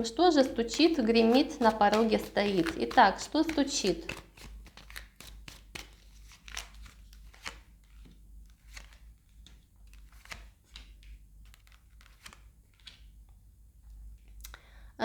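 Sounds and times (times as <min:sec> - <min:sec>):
cards rustling and flicking: 0:00.1 - 0:13.2.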